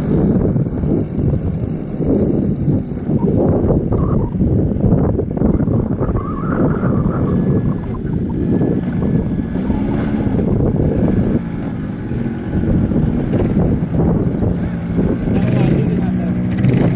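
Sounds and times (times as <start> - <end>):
quad bike engine running: 0.0 - 16.9
wind buffeting microphone: 0.0 - 16.9.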